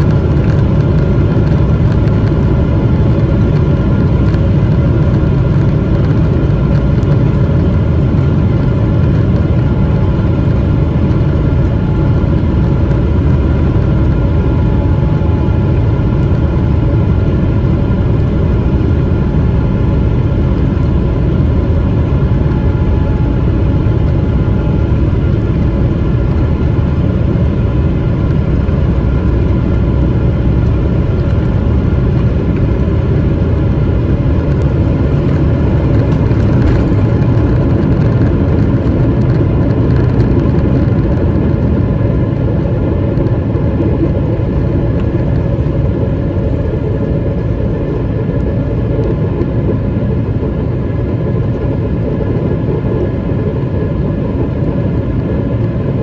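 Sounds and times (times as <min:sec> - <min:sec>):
jet engines rumbling on takeoff: 0:00.0 - 0:56.0.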